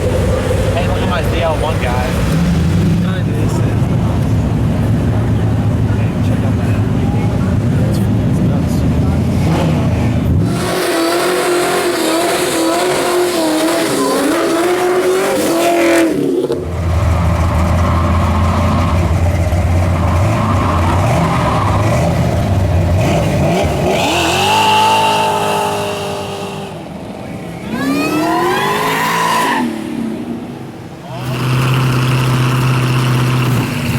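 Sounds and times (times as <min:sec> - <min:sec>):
performance car engines revving: 0:00.0 - 0:33.9.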